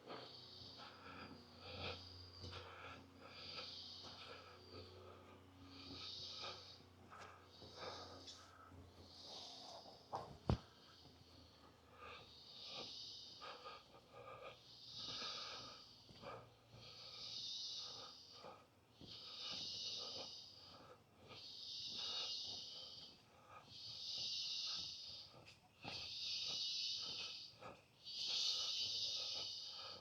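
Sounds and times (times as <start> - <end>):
insect buzzing rhythmically: 0.0 - 8.0, 11.4 - 30.0.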